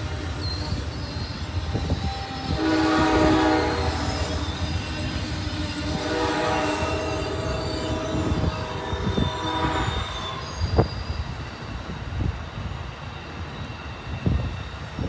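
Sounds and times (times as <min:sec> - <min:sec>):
train cars rumbling past: 0:00.0 - 0:15.0.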